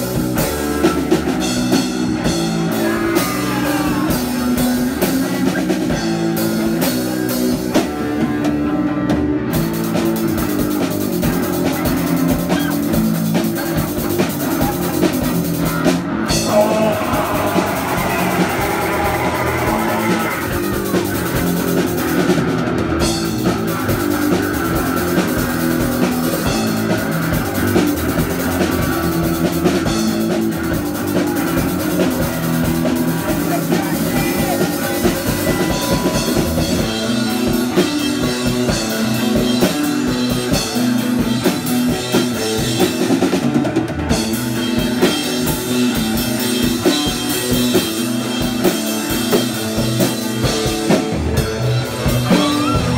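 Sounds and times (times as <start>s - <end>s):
punk rock band playing: 0.0s - 52.9s.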